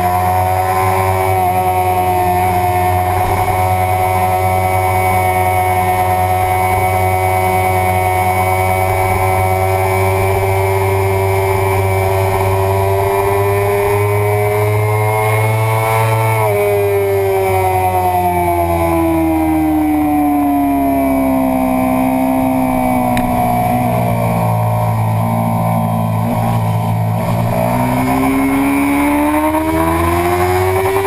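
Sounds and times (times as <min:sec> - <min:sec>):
motorcycle engine at high revs: 0:00.0 - 0:31.0.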